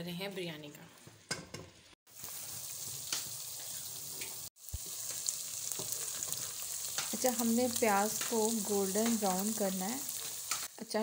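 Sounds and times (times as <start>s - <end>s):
onions sizzling in hot oil: 2.1s - 11.0s.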